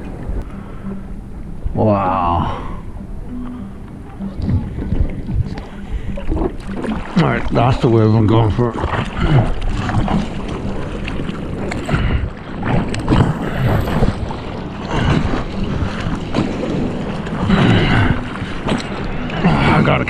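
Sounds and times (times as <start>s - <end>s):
wind on microphone: 0.0s - 20.0s
water sloshing against surfboard: 2.6s - 20.0s
arm strokes splashing water: 3.3s - 20.0s.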